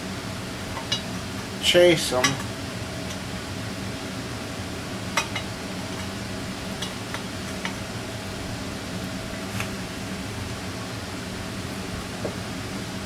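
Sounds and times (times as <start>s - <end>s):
steady shop hum: 0.0s - 13.0s.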